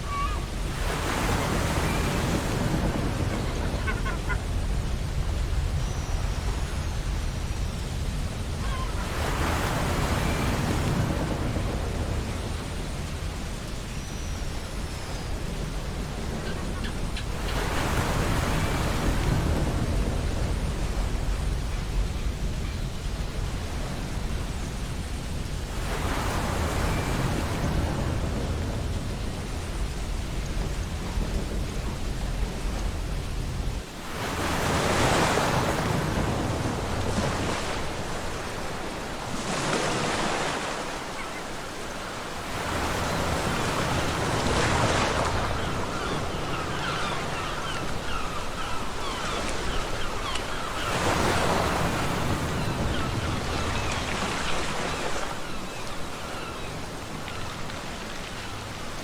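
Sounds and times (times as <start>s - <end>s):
low wind rumble: 0.0s - 59.0s
waves breaking on a beach: 0.0s - 59.0s.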